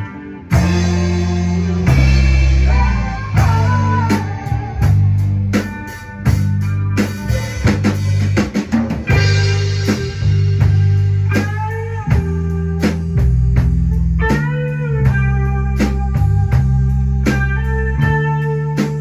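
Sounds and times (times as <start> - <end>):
blues band playing: 0.0 - 19.0
electric guitar with bent notes: 0.0 - 19.0.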